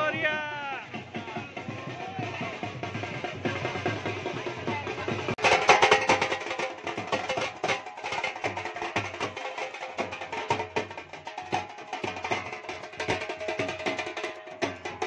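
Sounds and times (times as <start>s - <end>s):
drummers beating drums: 0.0s - 15.0s.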